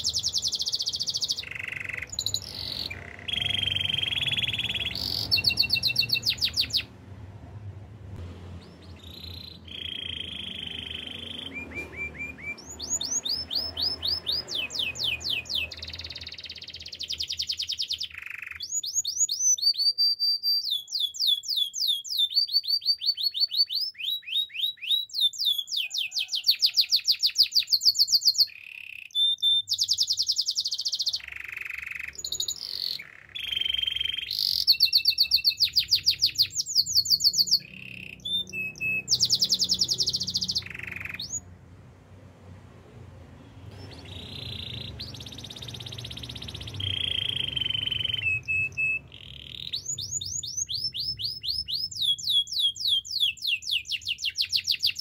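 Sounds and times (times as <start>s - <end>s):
canary singing with trills: 0.0s - 7.0s, 8.6s - 41.6s, 43.7s - 55.0s.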